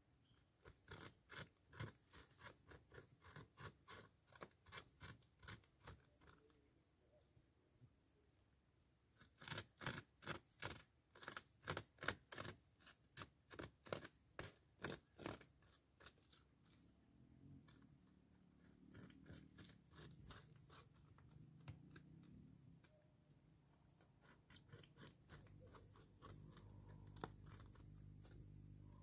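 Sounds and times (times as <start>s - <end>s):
beaver gnawing wood: 0.5s - 6.6s, 9.2s - 29.0s.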